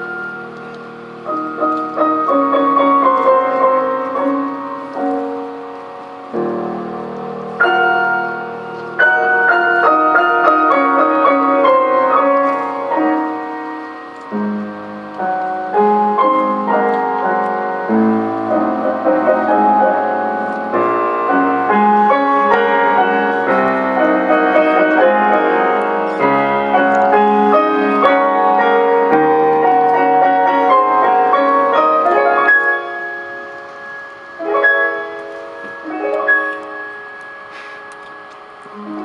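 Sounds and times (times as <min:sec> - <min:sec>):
tango music with piano: 0:00.0 - 0:39.0.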